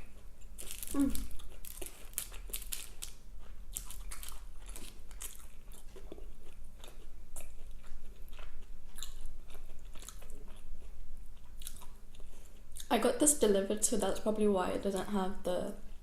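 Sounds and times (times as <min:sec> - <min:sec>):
crunchy chewing: 0:00.0 - 0:12.9.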